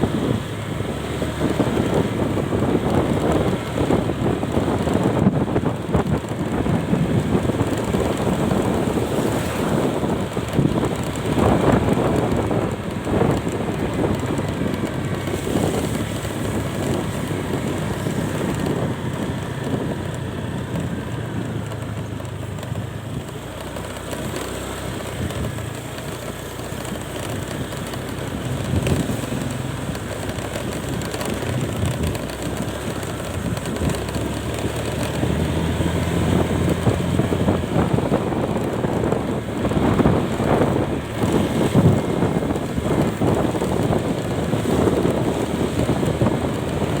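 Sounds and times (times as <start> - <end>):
vehicle engine running: 0.0 - 47.0
wind rushing over microphone: 0.0 - 47.0.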